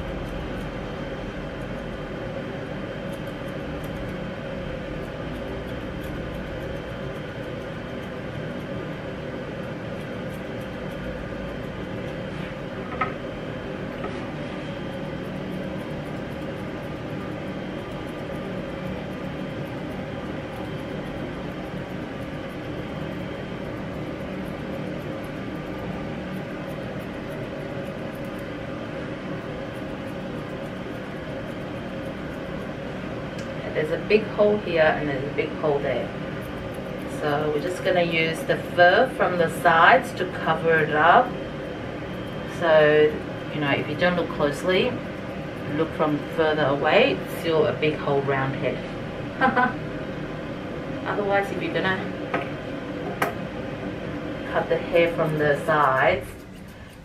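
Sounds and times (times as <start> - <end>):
machine humming: 0.0 - 57.0
shears snipping fur: 3.0 - 28.7, 29.3 - 47.4, 54.6 - 57.0.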